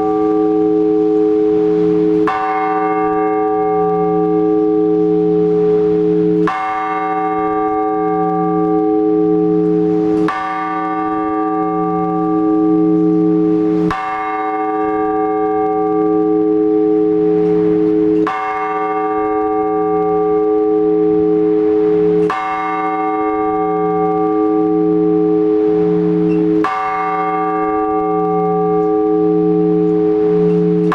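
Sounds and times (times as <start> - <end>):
large church bell tolling: 0.0 - 30.9.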